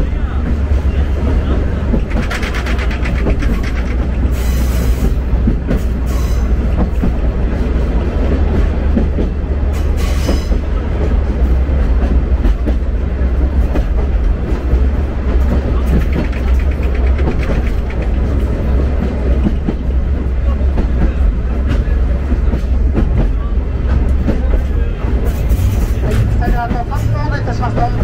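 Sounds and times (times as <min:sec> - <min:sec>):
train rumble: 0:00.0 - 0:28.0
wheels clattering over rails: 0:00.4 - 0:10.7, 0:13.6 - 0:28.0.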